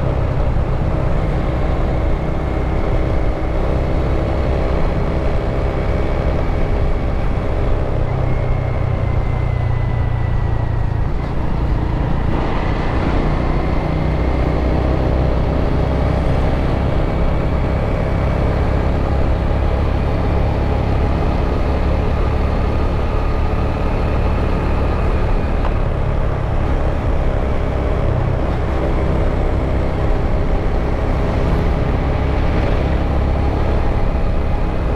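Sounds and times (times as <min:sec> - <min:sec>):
rushing road noise: 0:00.0 - 0:34.9.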